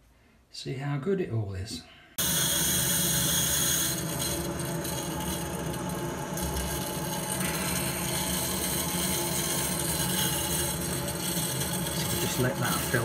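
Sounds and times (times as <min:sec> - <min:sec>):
water hissing through valve: 0:02.2 - 0:13.0.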